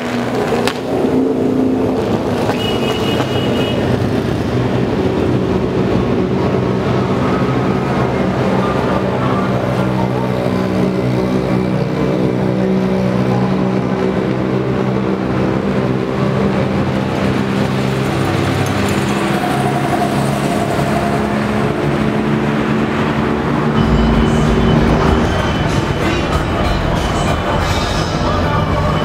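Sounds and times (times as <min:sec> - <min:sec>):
vehicle engines droning: 0:00.0 - 0:29.0.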